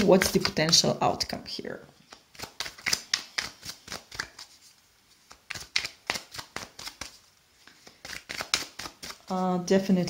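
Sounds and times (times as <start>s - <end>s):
cards being shuffled: 0.0s - 9.4s.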